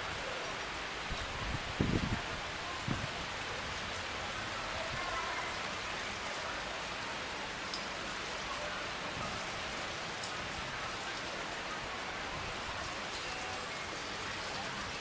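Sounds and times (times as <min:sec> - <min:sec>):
rain hissing on surfaces: 0:00.0 - 0:15.0
faint raindrop ticks: 0:03.0 - 0:15.0.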